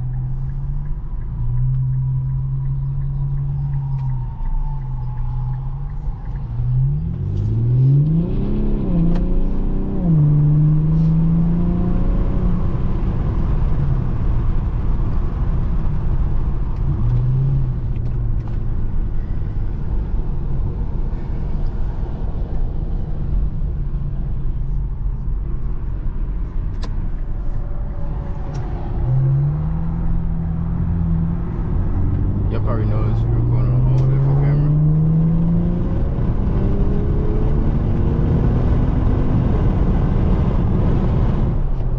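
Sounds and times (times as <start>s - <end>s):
turbocharged car engine accelerating: 0.0s - 23.7s, 26.5s - 41.9s
tyre and road noise: 0.0s - 41.9s.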